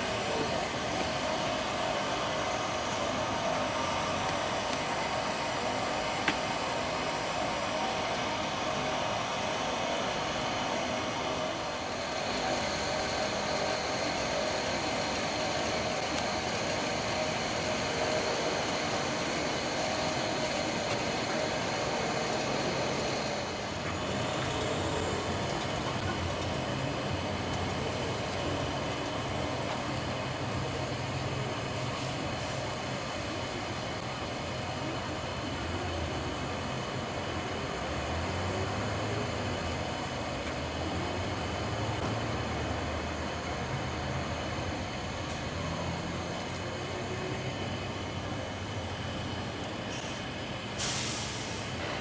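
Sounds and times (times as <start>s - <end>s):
jet engine noise: 0.0s - 52.0s.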